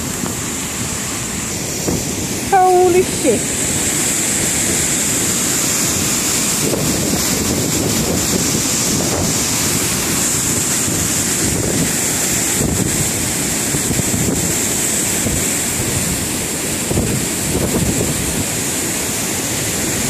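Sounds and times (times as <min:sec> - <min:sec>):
waterfall crashing over rocks: 0:00.0 - 0:20.0
wind buffeting microphone: 0:00.0 - 0:20.0.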